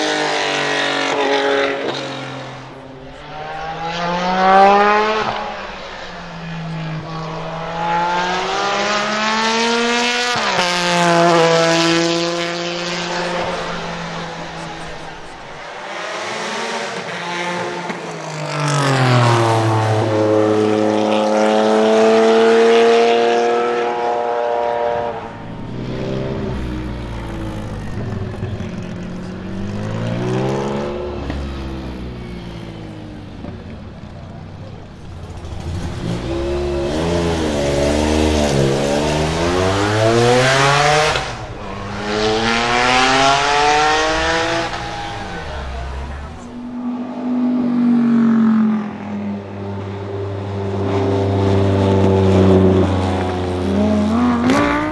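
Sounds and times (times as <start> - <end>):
sports car engine revving: 0.0 - 54.9.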